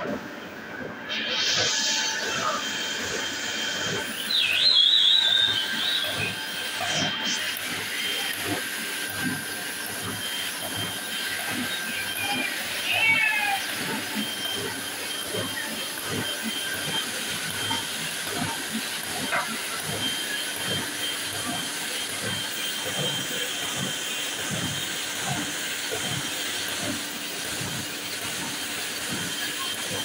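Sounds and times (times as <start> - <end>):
printing press running: 0.0 - 30.0.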